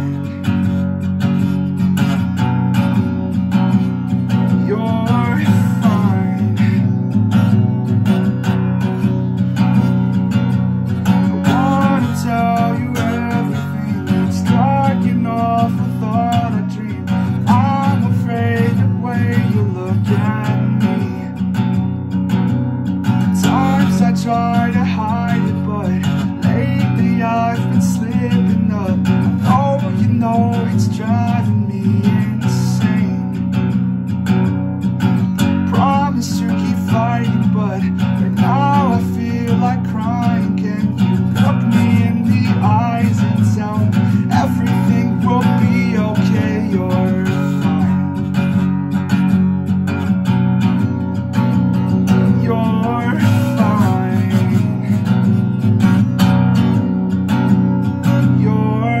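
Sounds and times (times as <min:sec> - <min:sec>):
man singing: 0:00.0 - 0:00.8, 0:04.2 - 0:10.1, 0:10.9 - 0:21.7, 0:23.1 - 0:33.6, 0:35.3 - 0:48.8, 0:51.3 - 0:56.0, 0:57.9 - 0:59.0
acoustic guitar strumming: 0:00.0 - 0:59.0.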